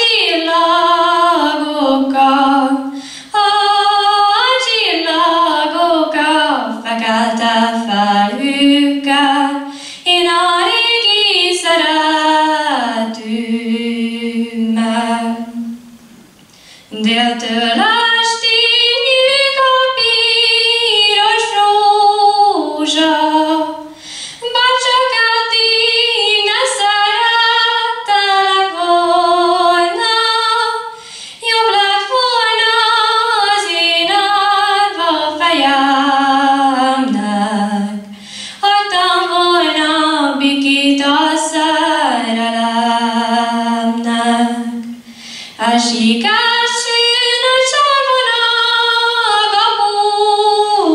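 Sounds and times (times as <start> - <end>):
girl singing unaccompanied: 0.0 - 16.1, 16.8 - 50.9.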